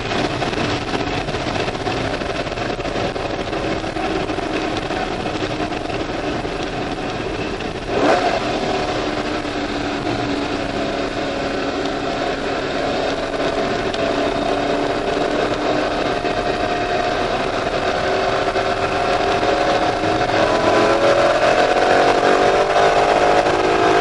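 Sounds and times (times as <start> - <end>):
car engine at speed: 0.0 - 24.0
wind and tyre noise: 0.0 - 24.0.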